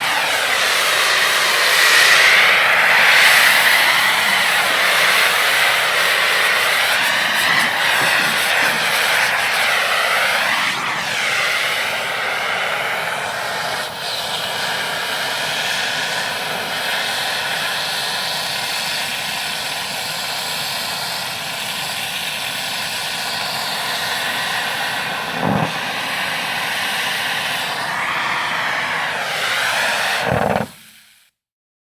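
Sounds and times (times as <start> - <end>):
air torch flame hissing: 0.0 - 31.3.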